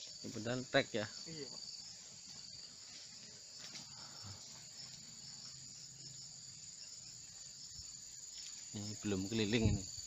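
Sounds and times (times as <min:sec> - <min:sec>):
insects shrilling: 0:00.0 - 0:10.0.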